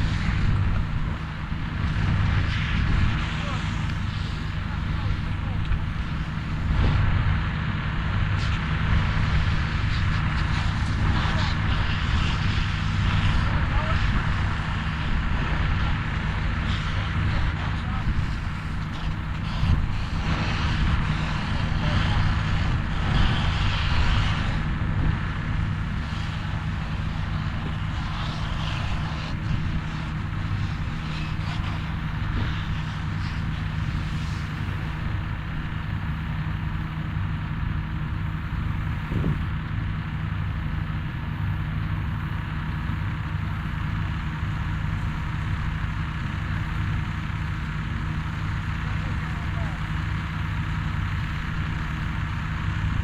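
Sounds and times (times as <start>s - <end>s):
vehicle engine droning: 0.0s - 53.0s.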